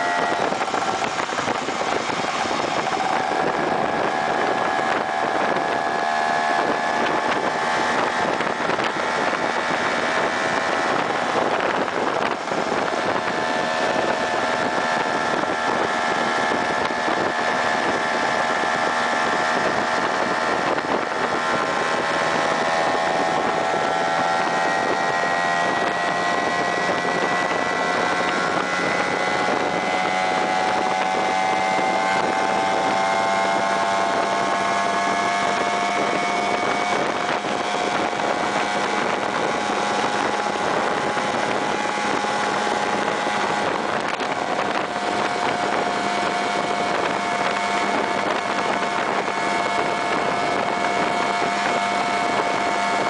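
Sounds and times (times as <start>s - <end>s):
scooter engine running: 0.0s - 53.0s
wind buffeting microphone: 0.0s - 53.0s.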